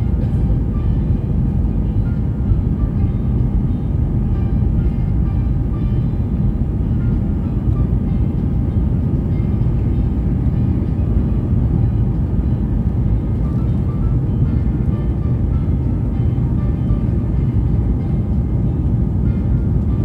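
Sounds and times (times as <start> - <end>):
jet cabin rumble and rush: 0.0 - 20.0.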